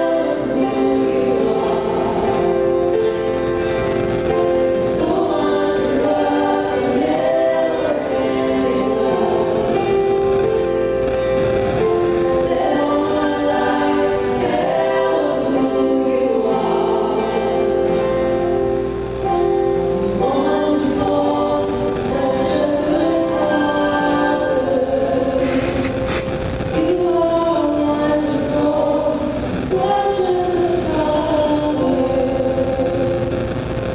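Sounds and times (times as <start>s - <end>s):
choir singing in harmony: 0.0s - 33.6s.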